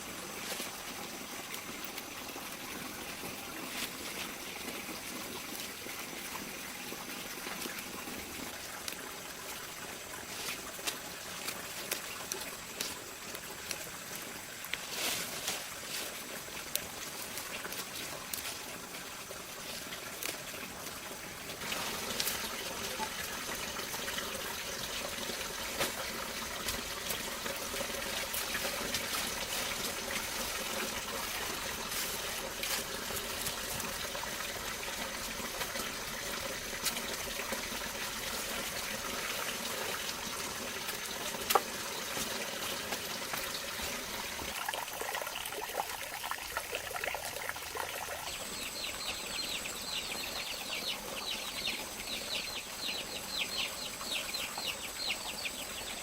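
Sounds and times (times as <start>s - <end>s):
water trickling and splashing: 0.0s - 56.0s.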